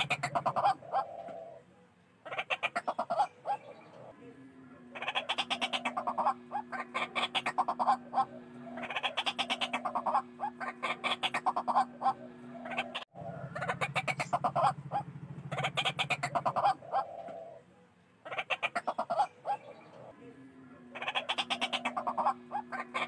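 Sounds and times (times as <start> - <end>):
bird harsh repeated calls: 0.0 - 1.6, 2.2 - 4.1, 4.9 - 17.6, 18.2 - 20.1, 20.9 - 23.0.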